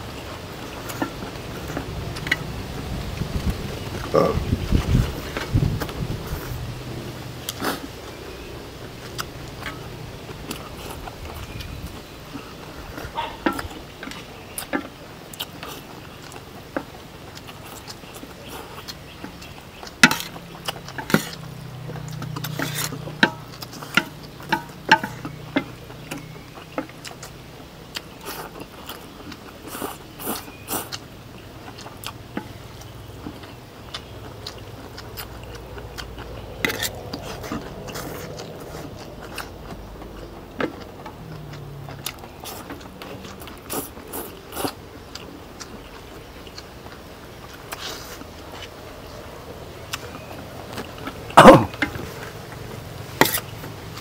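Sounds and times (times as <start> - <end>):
people chewing and eating: 0.0 - 54.0.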